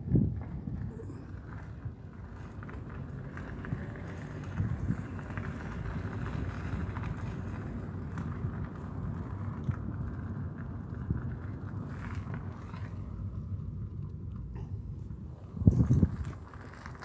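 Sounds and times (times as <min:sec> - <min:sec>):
wind buffeting microphone: 0:00.0 - 0:13.9, 0:14.7 - 0:17.0.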